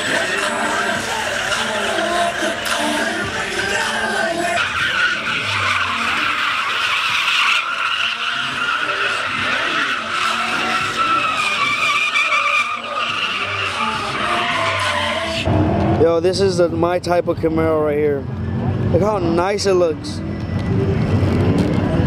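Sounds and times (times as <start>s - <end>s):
tires squealing: 0.0s - 22.0s.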